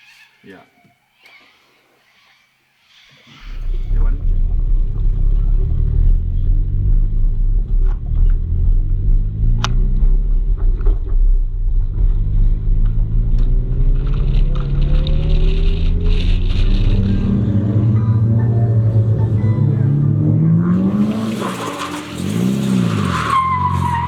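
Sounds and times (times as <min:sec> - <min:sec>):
car engine revving: 0:03.4 - 0:24.0.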